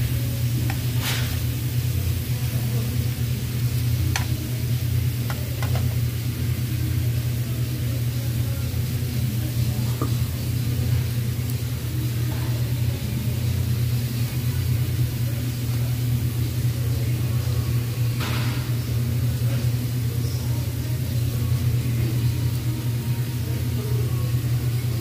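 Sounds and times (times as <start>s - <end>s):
meat sizzling on a grill plate: 0.0s - 24.9s
burner and ventilation drone: 0.0s - 25.0s.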